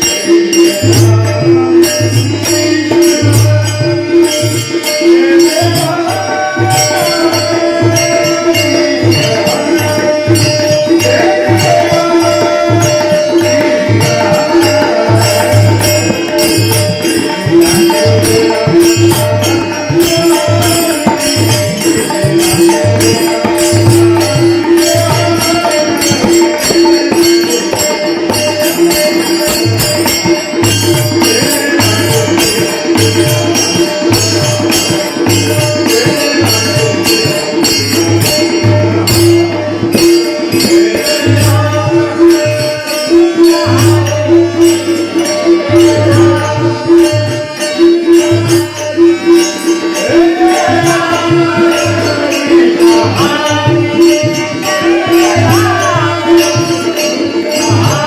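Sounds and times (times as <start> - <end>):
tabla rhythm: 0.0 - 58.0.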